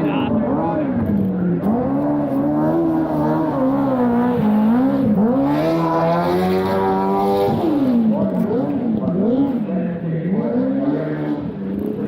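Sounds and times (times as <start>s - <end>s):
sidecar engine running hard: 0.0s - 12.0s.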